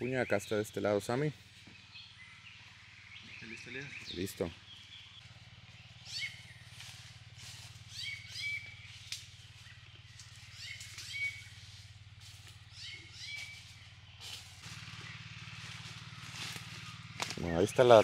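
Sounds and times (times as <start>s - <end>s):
bird chirping call: 0.0s - 18.0s.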